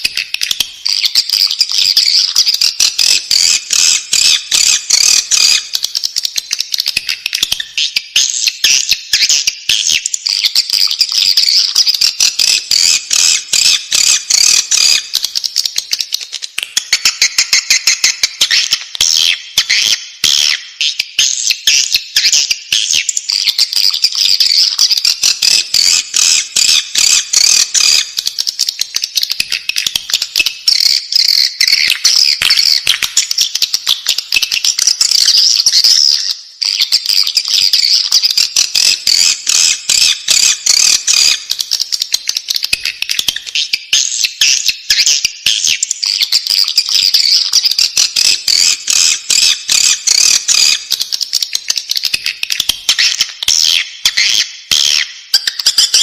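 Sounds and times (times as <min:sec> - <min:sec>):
bird chicks chirping: 0:00.0 - 0:56.0.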